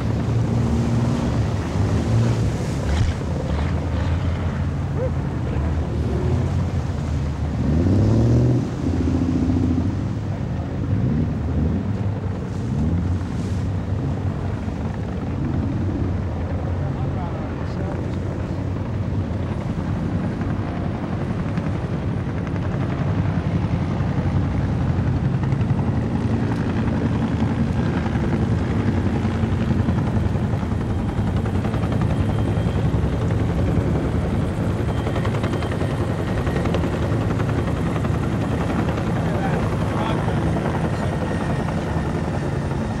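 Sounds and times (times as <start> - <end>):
low engine drone: 0.0 - 21.9, 23.0 - 43.0.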